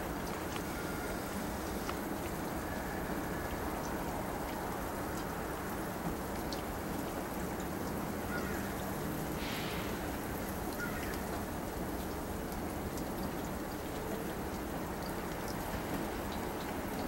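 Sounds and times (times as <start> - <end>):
wet snow and rain falling: 0.0 - 17.0.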